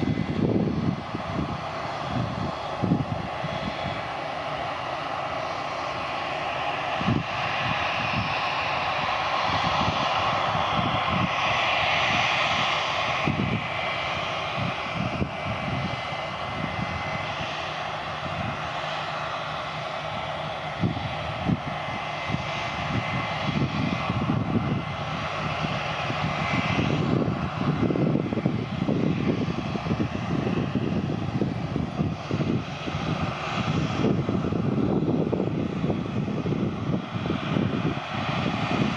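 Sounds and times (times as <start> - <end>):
jet engines rushing: 0.0 - 38.9.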